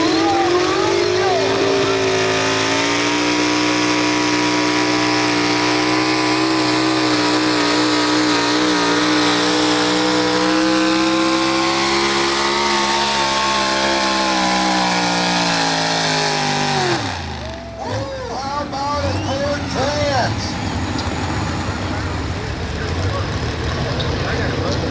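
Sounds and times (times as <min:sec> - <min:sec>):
truck engine at full throttle: 0:00.0 - 0:24.9.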